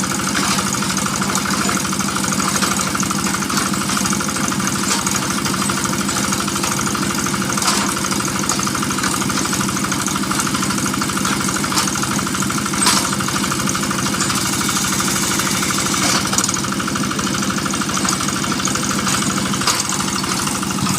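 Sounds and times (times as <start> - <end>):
drilling machine engine running: 0.0 - 20.9
metallic knocks: 0.0 - 20.9.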